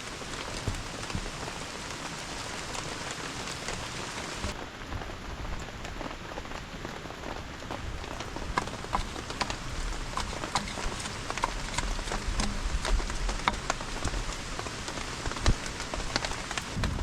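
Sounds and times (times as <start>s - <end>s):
heavy rain falling: 0.0s - 17.0s
raindrops ticking and tapping: 0.0s - 17.0s.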